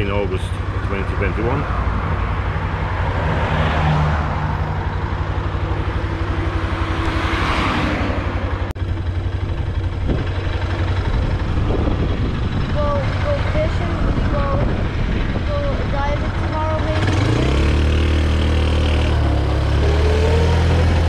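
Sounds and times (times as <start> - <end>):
engine running with low hum: 0.0 - 21.0.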